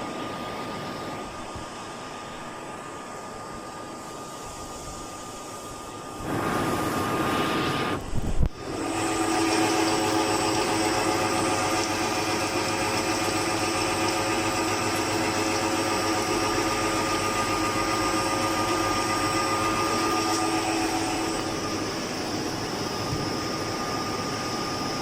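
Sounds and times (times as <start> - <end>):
machine humming and whining: 0.0 - 25.0.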